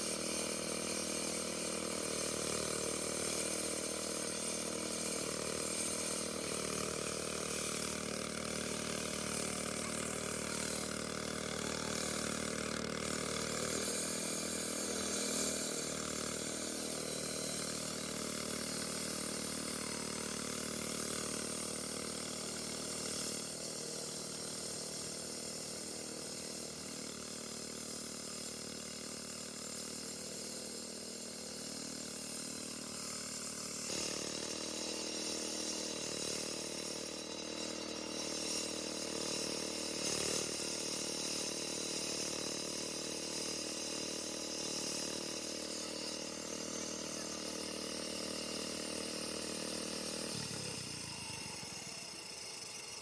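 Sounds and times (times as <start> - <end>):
motorized saw cutting concrete: 0.0 - 53.0.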